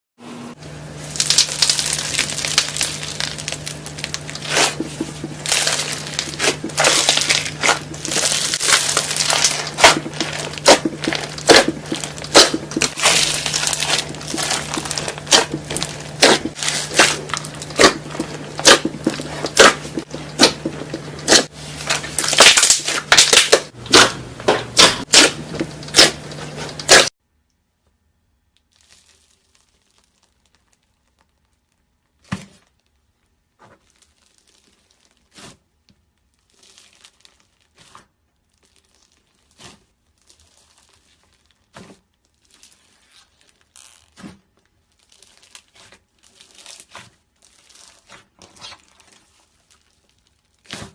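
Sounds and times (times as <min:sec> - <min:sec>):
slime crackling and popping: 0:01.0 - 0:27.1, 0:28.6 - 0:32.3, 0:36.2 - 0:50.9.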